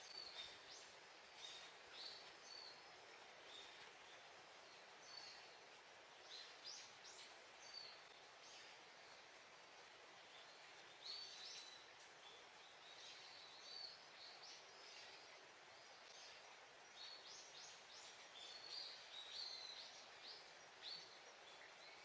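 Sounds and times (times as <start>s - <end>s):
low outdoor hiss: 0.0s - 22.0s
small birds chirping: 0.0s - 22.0s.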